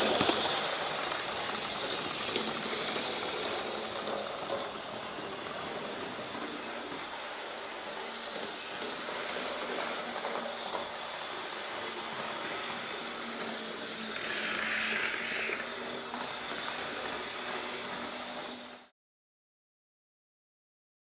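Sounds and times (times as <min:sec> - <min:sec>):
wheels on rails: 0:00.0 - 0:18.6
model train motor whir: 0:00.0 - 0:18.9.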